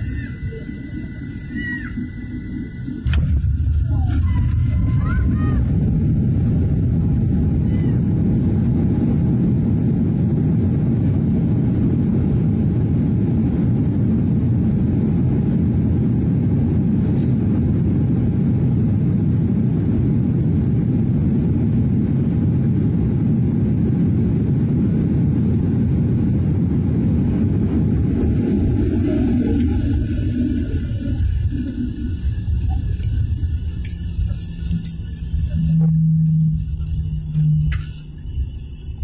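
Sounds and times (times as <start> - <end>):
airliner rolling on runway: 0.0 - 39.0.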